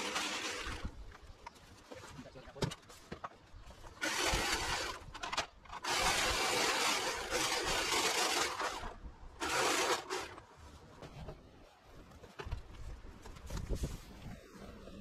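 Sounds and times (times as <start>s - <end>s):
scraping and rustling of garden work: 0.0s - 15.0s.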